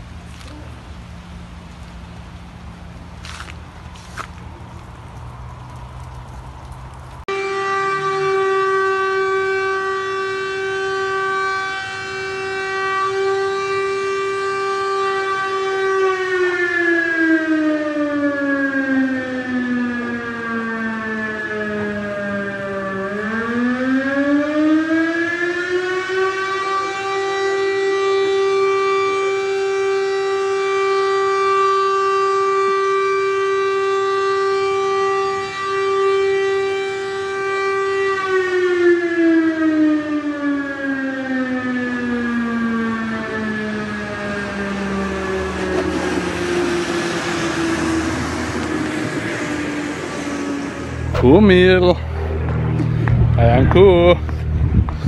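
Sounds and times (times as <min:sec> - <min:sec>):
warning siren wailing: 0:07.2 - 0:55.0.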